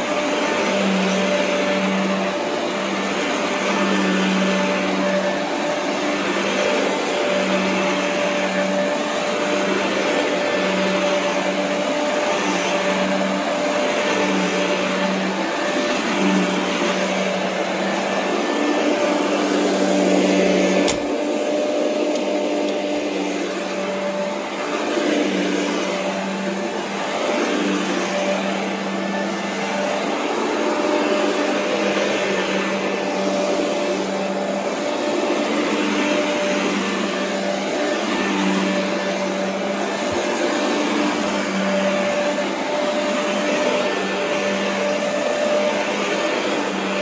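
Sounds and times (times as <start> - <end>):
vacuum cleaner on carpet: 0.0 - 47.0.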